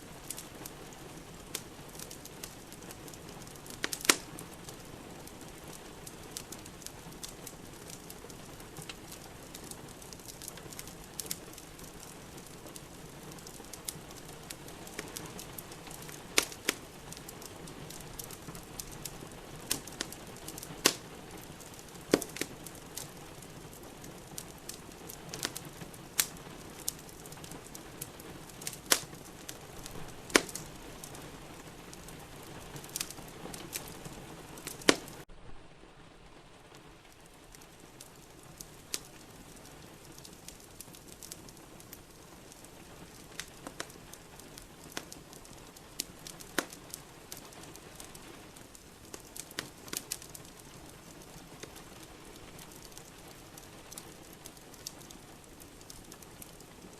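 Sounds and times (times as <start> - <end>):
wood fire crackling and popping: 0.0 - 35.3, 36.2 - 56.9
rain falling: 0.0 - 56.9.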